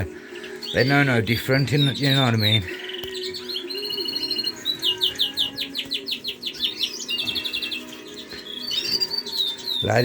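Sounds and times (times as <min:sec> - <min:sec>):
finches and canaries chirping: 0:00.0 - 0:10.0.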